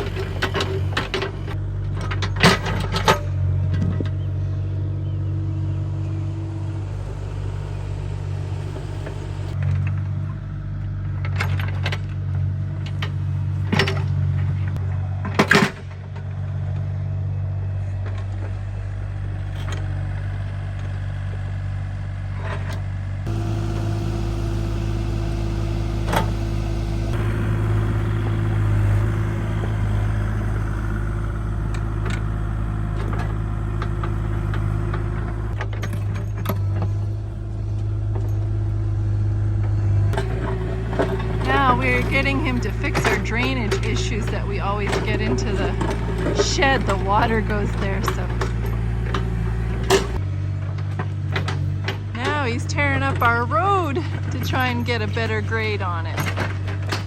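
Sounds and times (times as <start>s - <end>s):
excavator diesel engine running: 0.0s - 15.3s, 15.9s - 57.0s.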